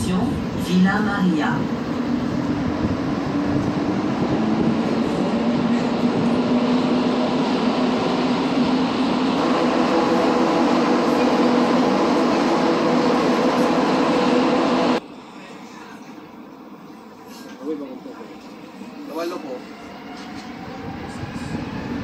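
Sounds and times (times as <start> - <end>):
metro train rumbling: 0.0 - 22.0.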